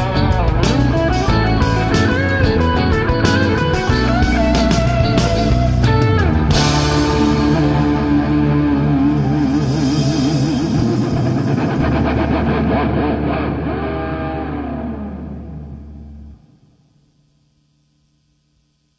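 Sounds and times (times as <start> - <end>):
jazz-rock band final chord: 0.0 - 15.9
steady bass note: 0.0 - 16.4.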